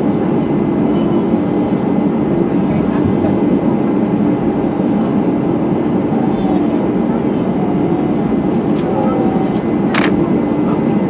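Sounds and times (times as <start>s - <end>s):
jet engines rumbling in cabin: 0.1s - 11.0s.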